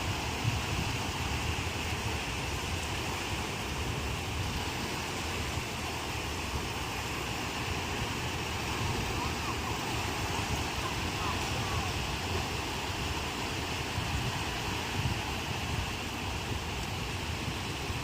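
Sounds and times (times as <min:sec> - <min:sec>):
ocean surf washing: 0:00.0 - 0:18.0
wind rumble on microphone: 0:00.0 - 0:18.0.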